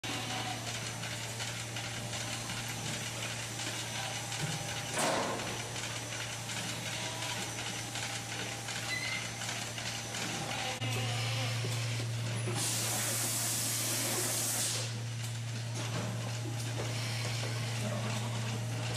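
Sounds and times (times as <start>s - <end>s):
milking machinery humming: 0.0s - 18.9s.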